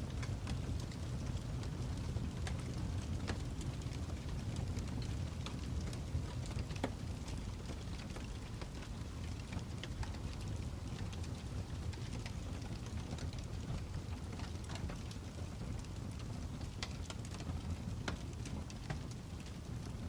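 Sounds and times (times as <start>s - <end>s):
low rumble of flames: 0.0s - 20.0s
wood fire crackling: 0.0s - 20.0s.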